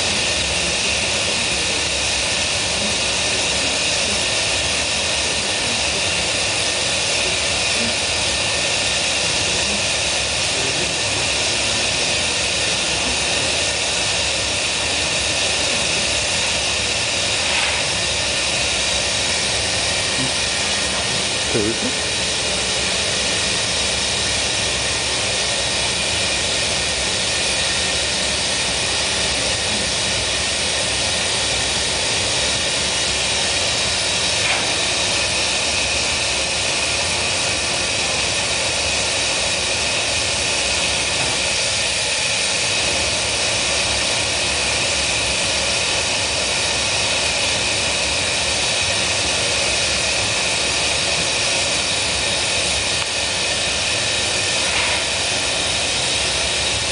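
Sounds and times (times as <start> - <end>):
gas burner rushing: 0.0 - 56.9.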